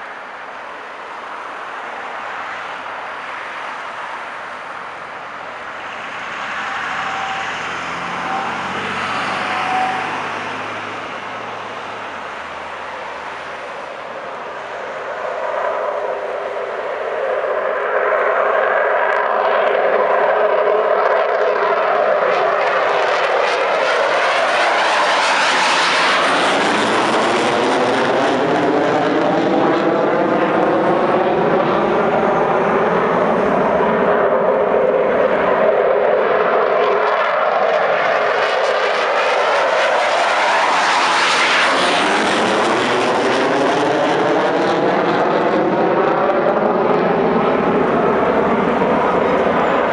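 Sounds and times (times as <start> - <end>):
fighter jets taking off: 0.0 - 49.9.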